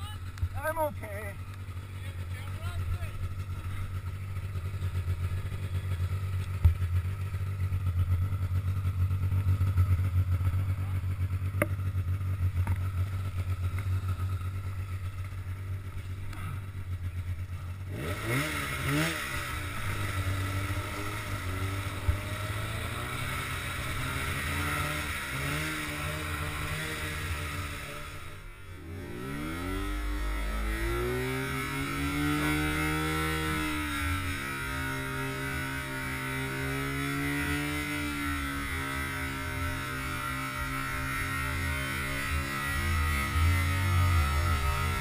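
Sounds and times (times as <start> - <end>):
snowmobile engine idling and revving: 0.0 - 45.0.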